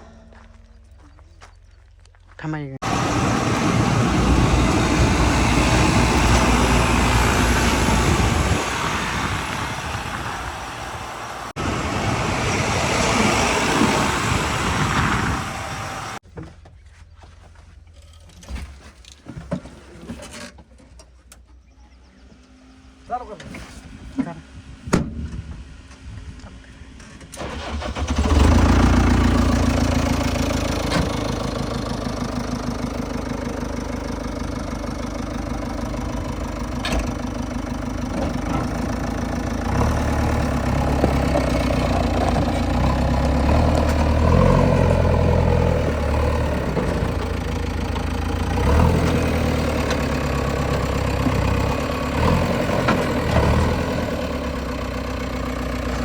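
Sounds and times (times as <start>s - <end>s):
diesel engine running: 0.0s - 16.3s, 25.6s - 56.0s.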